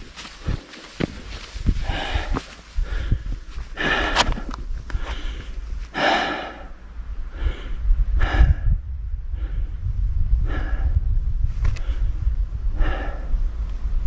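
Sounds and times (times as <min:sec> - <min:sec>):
person breathing hard: 0:00.3 - 0:13.6.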